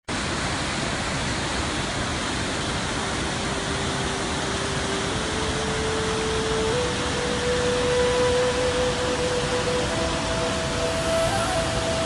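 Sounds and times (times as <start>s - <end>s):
waterfall roaring: 0.1s - 12.0s.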